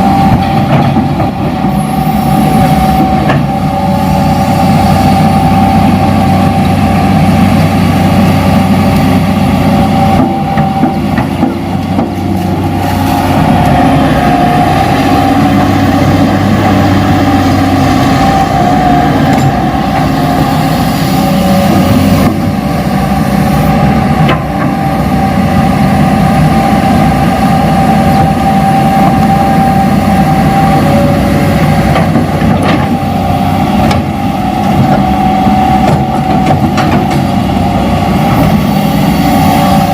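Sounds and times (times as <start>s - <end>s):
constant high whine: 0.0s - 39.9s
excavator engine rumble: 0.0s - 39.9s.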